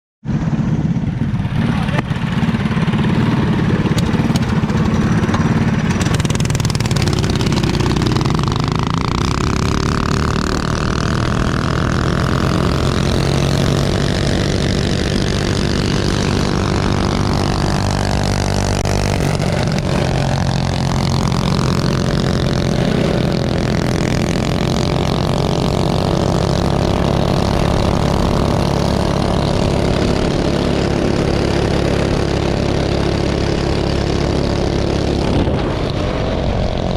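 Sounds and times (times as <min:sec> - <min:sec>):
minibike engines racing: 0:00.3 - 0:36.9.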